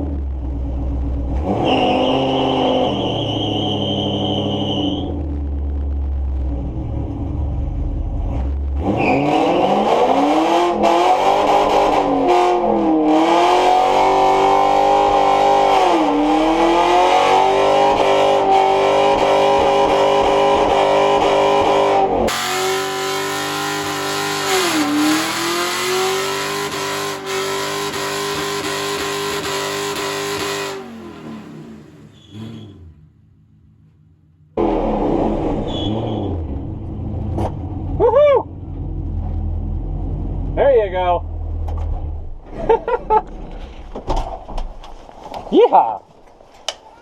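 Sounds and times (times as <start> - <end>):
car engine revving: 0.0 - 44.1.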